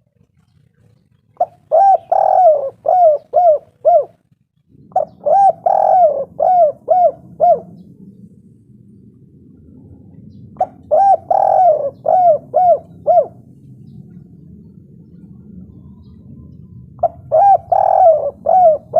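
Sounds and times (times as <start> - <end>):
dove cooing: 0.0 - 8.3, 9.6 - 18.9.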